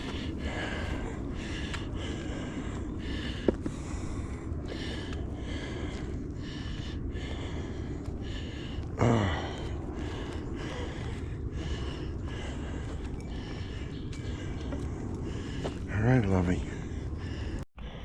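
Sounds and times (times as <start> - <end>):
person breathing hard: 0.0 - 16.0, 16.6 - 18.0.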